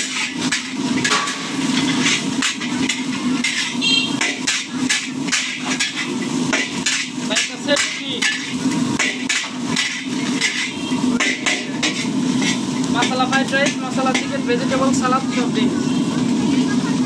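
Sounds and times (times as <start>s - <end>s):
metal spatula clanging on wok: 0.0s - 14.4s.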